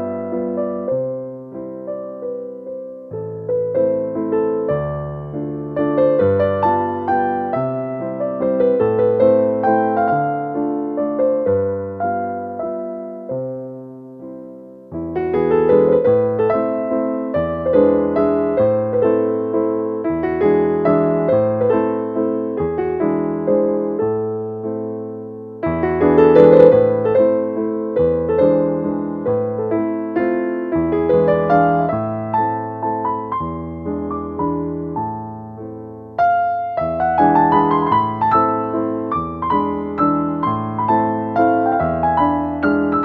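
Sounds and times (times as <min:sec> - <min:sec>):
gentle solo piano: 0:00.0 - 0:43.0.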